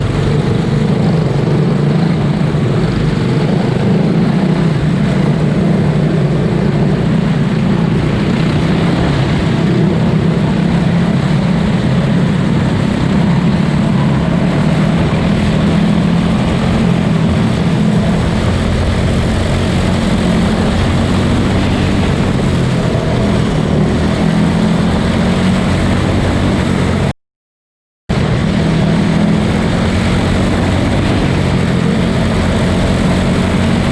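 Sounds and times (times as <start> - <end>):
small race car engines droning: 0.0 - 27.1, 28.1 - 33.9.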